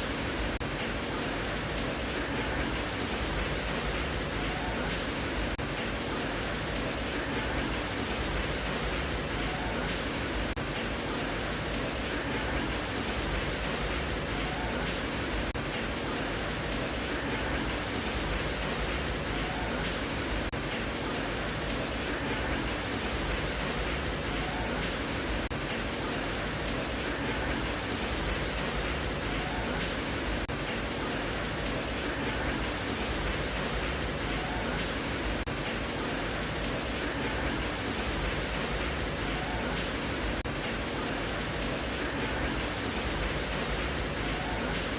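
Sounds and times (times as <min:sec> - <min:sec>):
rain hiss: 0:00.0 - 0:44.9.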